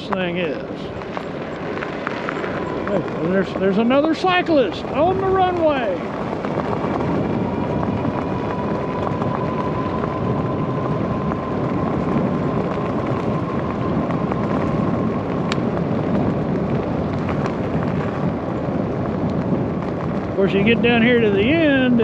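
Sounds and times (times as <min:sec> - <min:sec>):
thin steady whine: 0:00.0 - 0:22.0
tyres rumbling on asphalt: 0:00.0 - 0:22.0
wind on microphone: 0:00.0 - 0:22.0.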